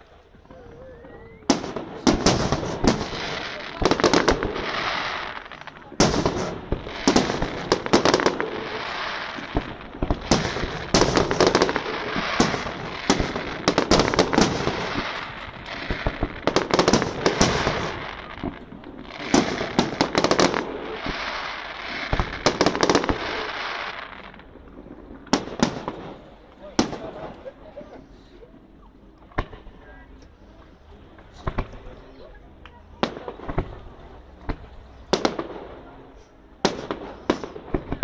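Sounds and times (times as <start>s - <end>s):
fireworks bangs: 0.0s - 27.6s, 29.3s - 38.0s
fireworks crackle: 0.0s - 28.4s, 29.0s - 38.0s.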